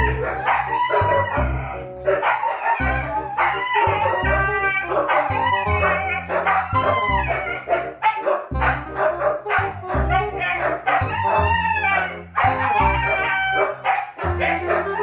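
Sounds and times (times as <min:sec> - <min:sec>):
background music low notes: 0:00.0 - 0:15.0
dogs whining and howling: 0:00.0 - 0:15.0.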